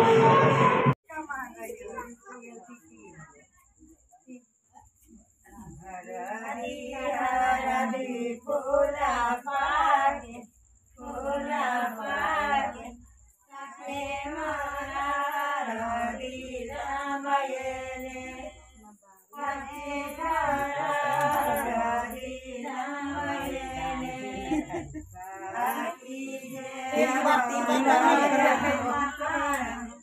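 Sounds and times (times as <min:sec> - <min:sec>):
women singing together: 0:05.5 - 0:30.0.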